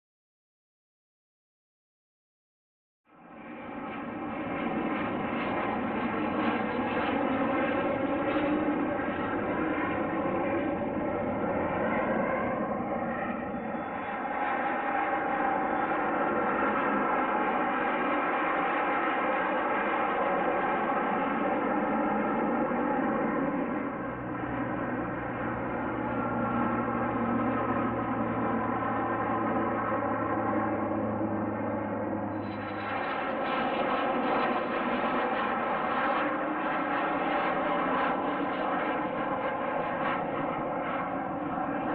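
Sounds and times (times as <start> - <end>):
aircraft engine drone: 3.1 - 41.9.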